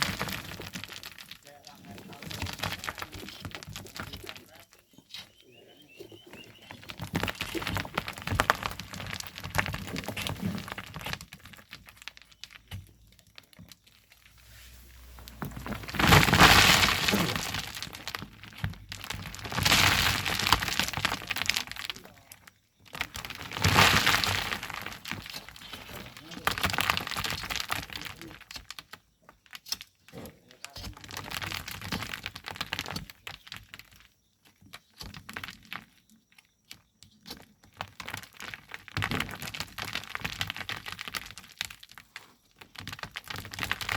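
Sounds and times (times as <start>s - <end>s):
sand and stones clattering: 0.0s - 43.9s.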